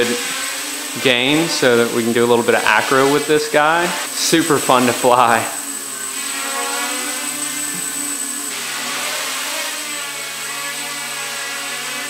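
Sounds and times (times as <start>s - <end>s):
quadcopter propellers whirring: 0.0s - 12.0s.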